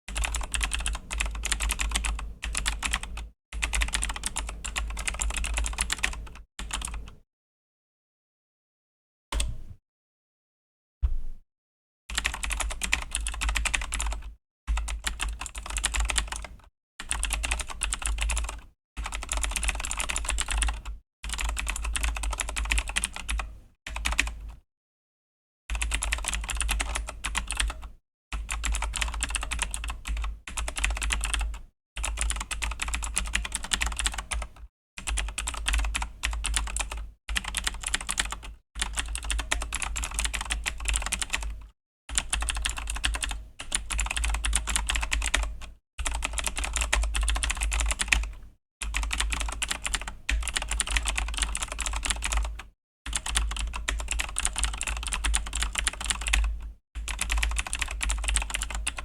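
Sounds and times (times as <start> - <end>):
fast typing on mechanical keyboard: 0.1 - 7.2, 12.1 - 24.6, 25.7 - 59.0.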